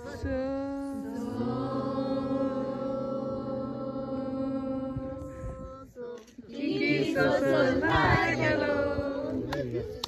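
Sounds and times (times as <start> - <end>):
chanted mantra with held tones: 0.0 - 9.9.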